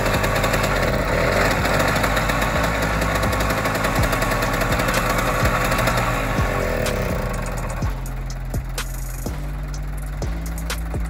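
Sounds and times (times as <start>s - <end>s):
tractor engine rattling: 0.0s - 11.0s.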